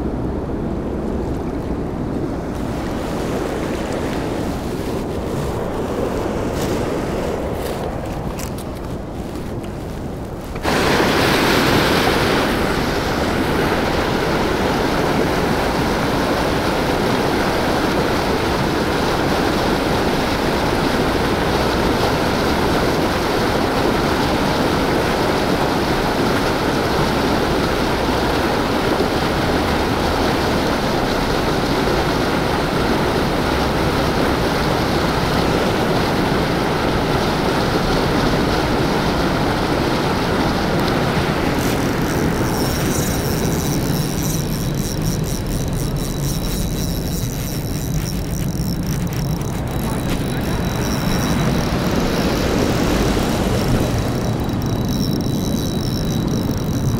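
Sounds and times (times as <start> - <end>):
white water rushing: 0.0 - 56.9.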